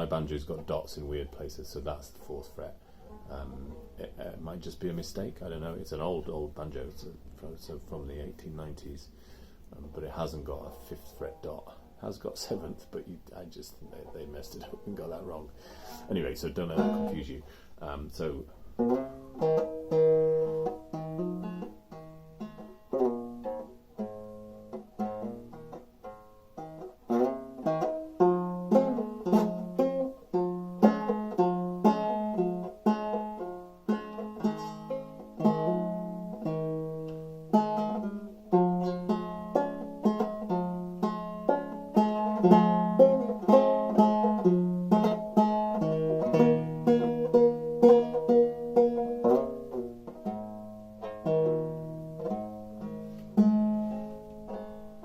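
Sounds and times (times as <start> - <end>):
banjo played clawhammer style: 0.0 - 55.0.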